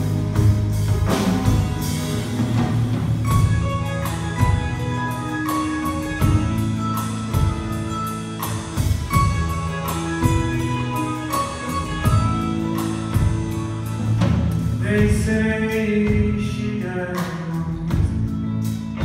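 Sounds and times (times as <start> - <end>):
drum hits: 0.0 - 15.4
live band playing: 0.0 - 19.0.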